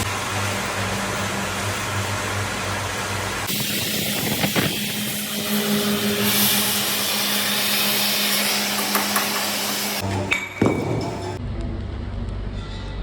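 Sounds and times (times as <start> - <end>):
metalworking machine hissing: 0.0 - 11.4.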